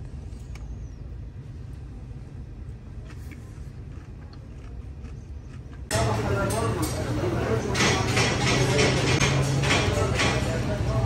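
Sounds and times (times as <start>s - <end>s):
street low rumble: 0.0s - 11.0s.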